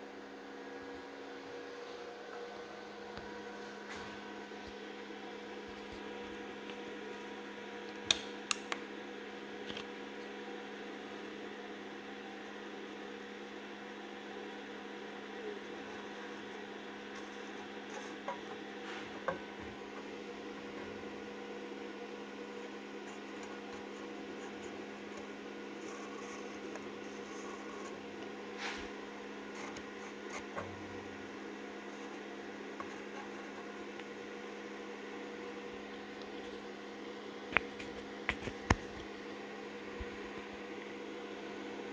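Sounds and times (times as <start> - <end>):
steady hum with fixed tones: 0.0 - 41.9.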